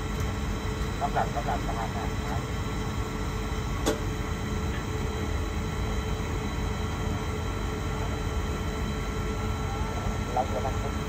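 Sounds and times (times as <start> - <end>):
faint constant hum: 0.0 - 11.0.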